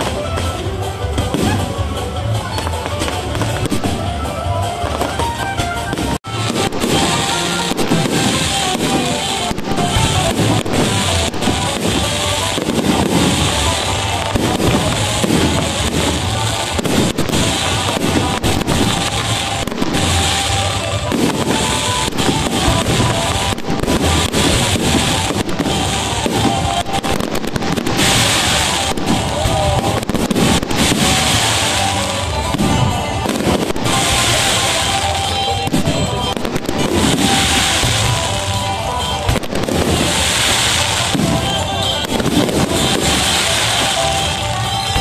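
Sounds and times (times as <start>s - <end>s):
fireworks bursting: 0.0s - 45.0s
music playing: 0.0s - 45.0s.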